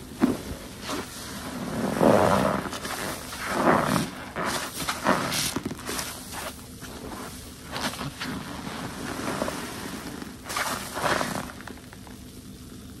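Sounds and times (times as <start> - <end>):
soapy sponge squelching: 0.3 - 12.1.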